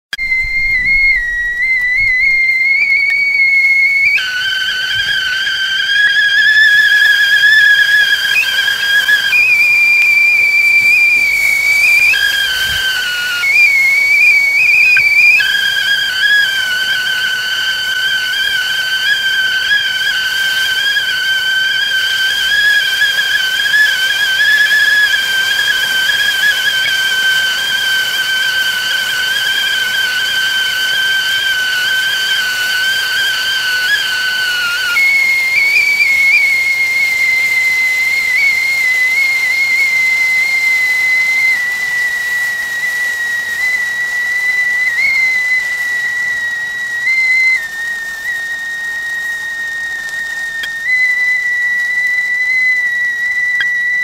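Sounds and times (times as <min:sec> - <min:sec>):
kettle whistling: 0:00.0 - 0:54.0
steam hissing: 0:00.1 - 0:54.0.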